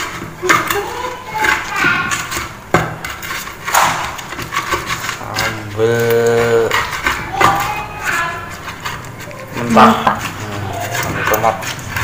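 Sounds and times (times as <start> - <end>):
pestle grinding in a mortar: 0.0 - 12.0.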